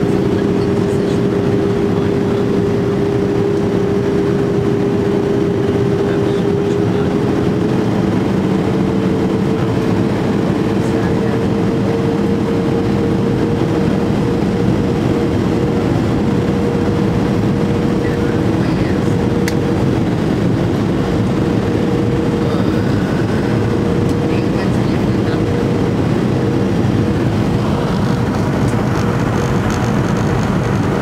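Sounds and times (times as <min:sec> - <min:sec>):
airplane cabin air rush: 0:00.0 - 0:31.0
humming engine tone: 0:00.0 - 0:31.0.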